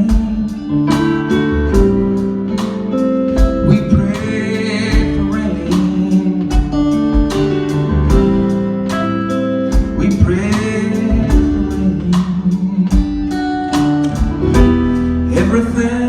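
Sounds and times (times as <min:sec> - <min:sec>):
guitar: 0:00.0 - 0:16.0
steady drum beat: 0:00.0 - 0:16.0.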